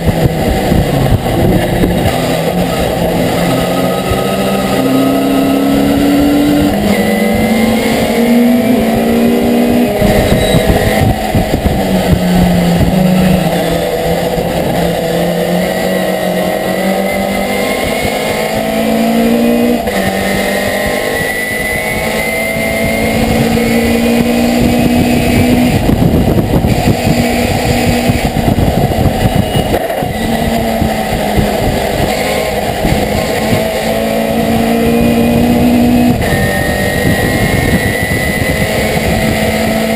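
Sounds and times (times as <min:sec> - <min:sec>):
road and wind noise: 0:00.0 - 0:39.9
truck engine accelerating: 0:00.0 - 0:39.9.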